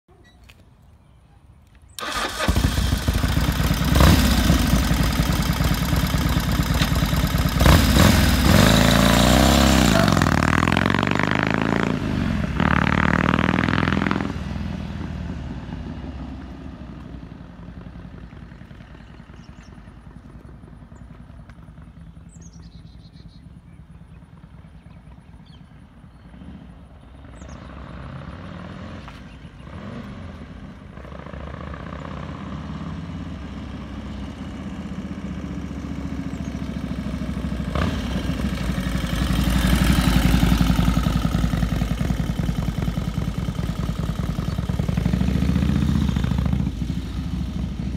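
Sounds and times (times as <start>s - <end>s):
motorcycle engine revving: 2.0s - 47.9s.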